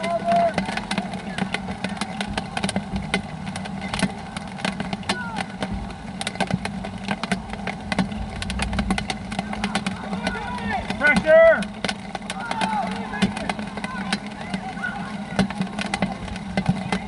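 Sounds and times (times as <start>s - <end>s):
low steady hum: 0.0s - 17.0s
raindrops striking an umbrella: 0.0s - 17.0s.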